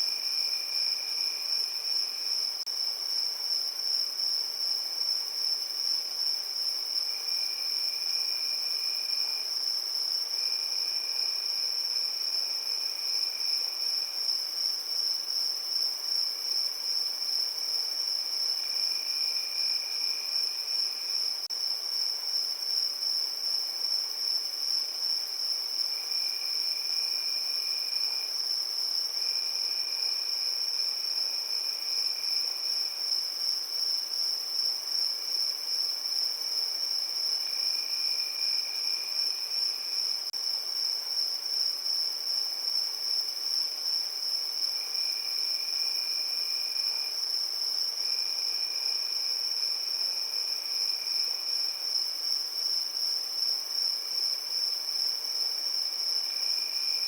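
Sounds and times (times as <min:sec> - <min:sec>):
crickets chirping: 0:00.0 - 0:57.0
lower insect trill: 0:00.0 - 0:57.0.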